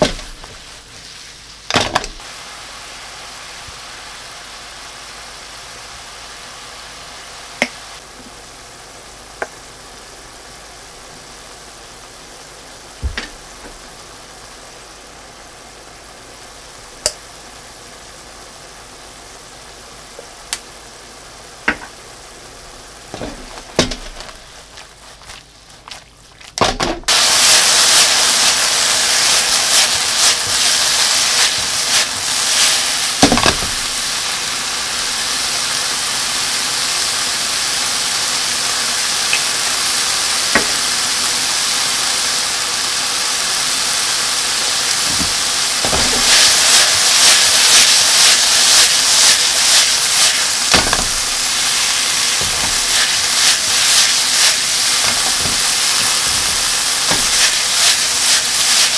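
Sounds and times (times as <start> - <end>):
food sizzling in a frying pan: 0.0 - 58.9.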